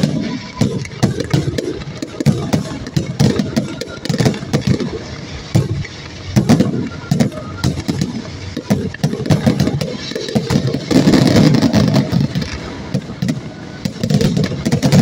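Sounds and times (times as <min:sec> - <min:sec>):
continuous low rumble: 0:00.0 - 0:15.0
fireworks bangs: 0:00.0 - 0:15.0.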